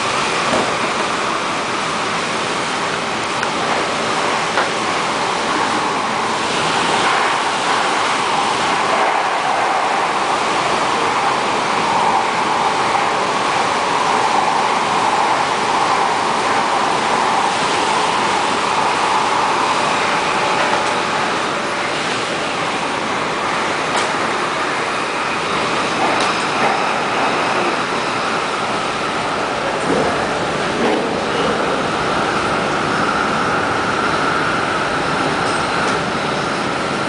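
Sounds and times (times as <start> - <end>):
train rushing through tunnel: 0.0 - 37.0.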